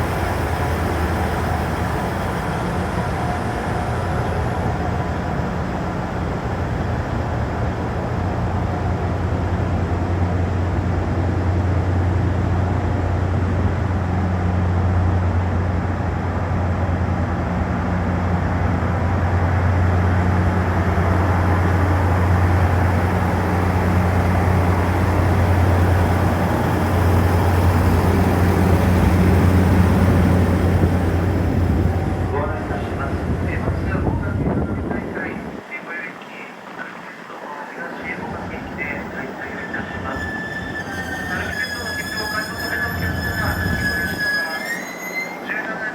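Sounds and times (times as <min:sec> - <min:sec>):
train humming and rumbling: 0:00.0 - 0:45.9.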